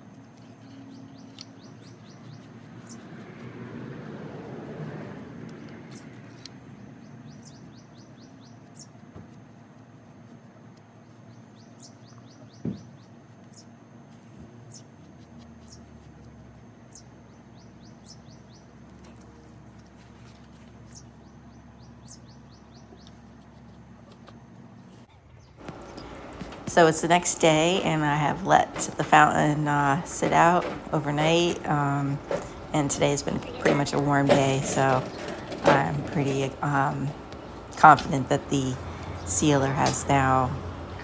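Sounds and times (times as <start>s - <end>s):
songbird singing: 0.0s - 41.0s.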